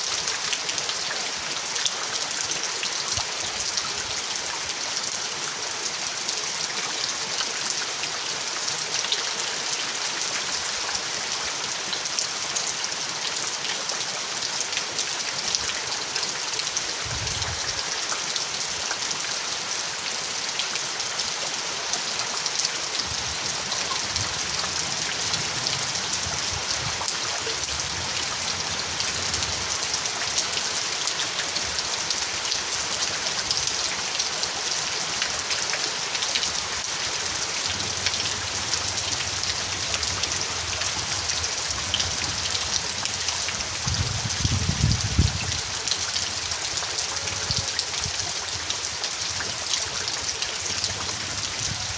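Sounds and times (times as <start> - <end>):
heavy rain: 0.0 - 51.9.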